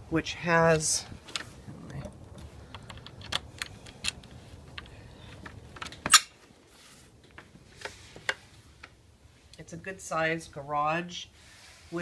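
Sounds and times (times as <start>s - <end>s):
low background hum: 0.0s - 11.9s.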